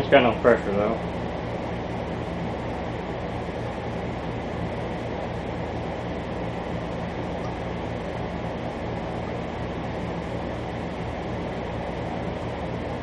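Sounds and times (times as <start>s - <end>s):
low hum: 0.0s - 13.0s
steady background drone: 0.0s - 13.0s.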